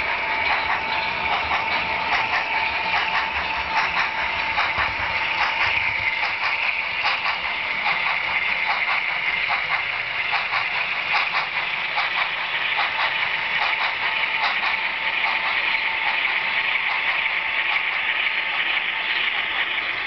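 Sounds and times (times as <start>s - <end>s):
model train motor whir: 0.0s - 20.0s
wheels clicking over rail joints: 0.0s - 20.0s.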